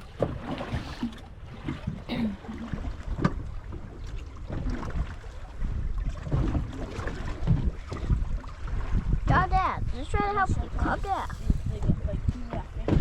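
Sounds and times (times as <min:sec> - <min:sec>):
water against hull rumble: 0:00.0 - 0:13.0
wind buffeting microphone: 0:00.0 - 0:13.0.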